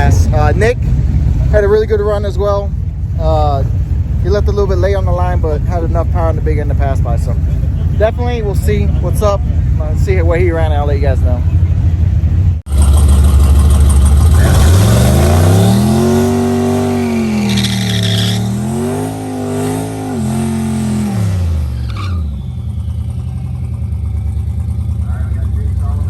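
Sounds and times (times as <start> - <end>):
race truck engine accelerating: 0.0 - 26.0.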